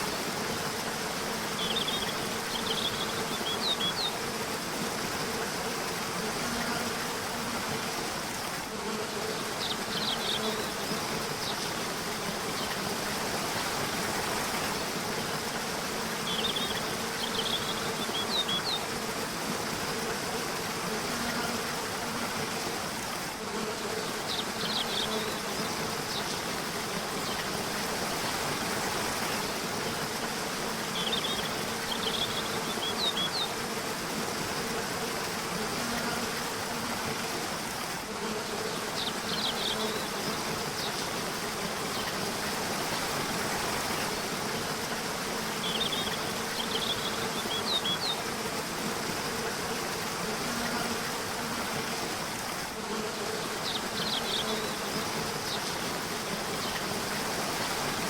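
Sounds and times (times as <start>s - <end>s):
river water rushing: 0.0s - 35.5s, 36.3s - 50.2s.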